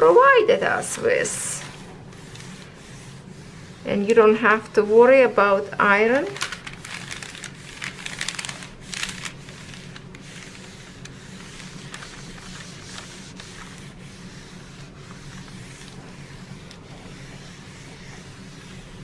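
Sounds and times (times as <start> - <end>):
iron sliding on rustling paper: 0.0 - 19.0.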